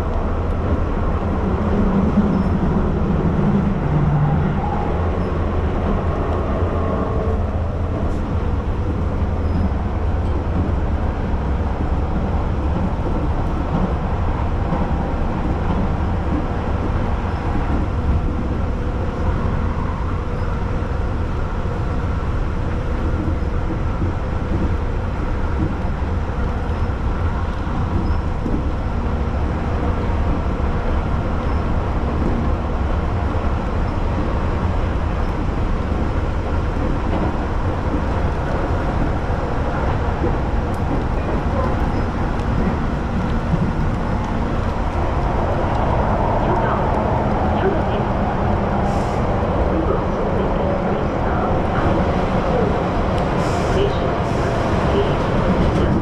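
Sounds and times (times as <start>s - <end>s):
train wheels and motors rumbling: 0.0s - 56.0s.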